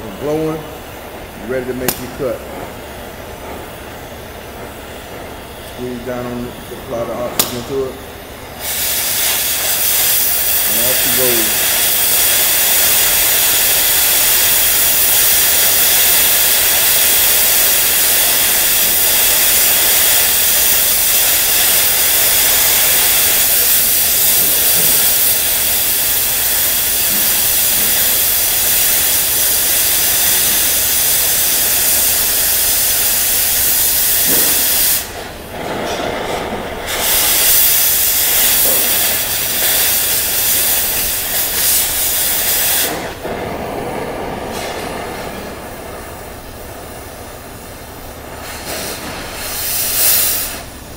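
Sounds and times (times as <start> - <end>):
cutting torch hissing: 0.0 - 50.9.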